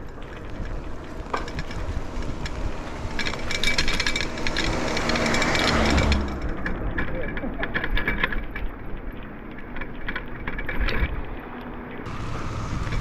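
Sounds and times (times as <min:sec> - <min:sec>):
bicycle rattling and clattering: 0:00.0 - 0:13.0.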